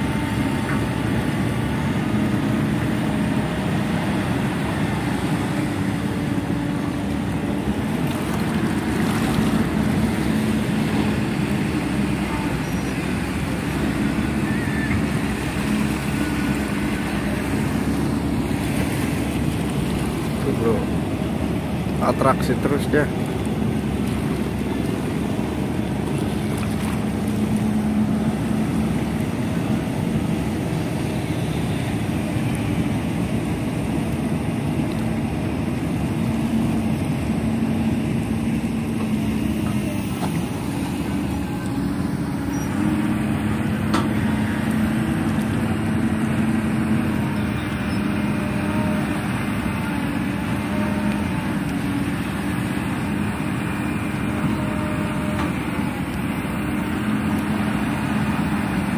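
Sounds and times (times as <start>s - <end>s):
engine droning: 0.0s - 58.9s.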